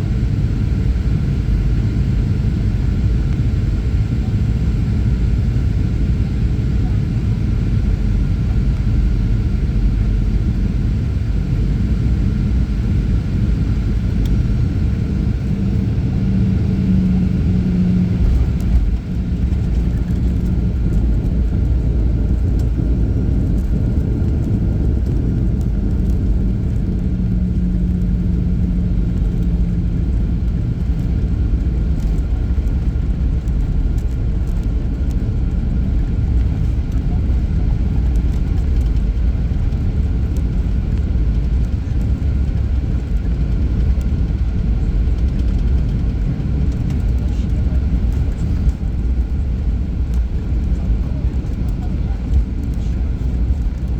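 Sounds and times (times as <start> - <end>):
airplane engine rumble: 0.0 - 53.9
faint cabin hum: 0.0 - 53.9.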